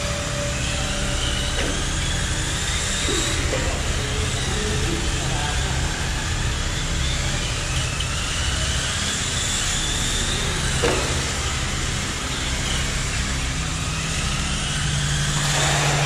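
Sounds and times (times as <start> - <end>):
high motor whine: 0.0 - 16.0
rc car motors hissing: 0.0 - 16.0.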